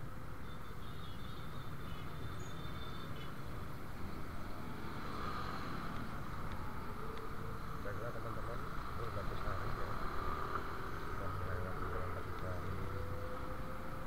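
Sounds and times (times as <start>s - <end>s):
low engine and road rumble: 0.0s - 14.0s
motorcycles moving off: 2.0s - 14.0s.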